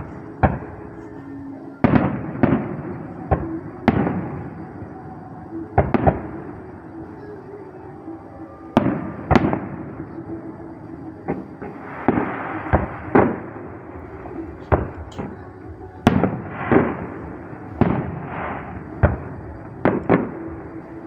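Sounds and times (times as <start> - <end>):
fireworks bangs: 0.0 - 5.0, 5.8 - 6.6, 8.8 - 10.5, 11.2 - 21.0
continuous noisy wash: 0.0 - 21.0.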